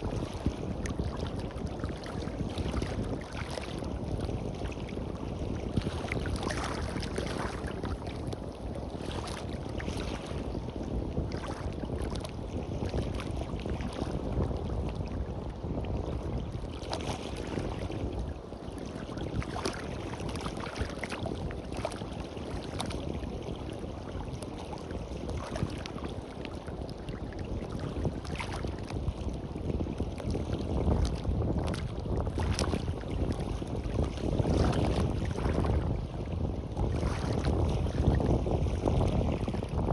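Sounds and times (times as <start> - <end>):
waves washing onto beach: 0.0 - 39.9
wind buffeting microphone: 0.0 - 39.9.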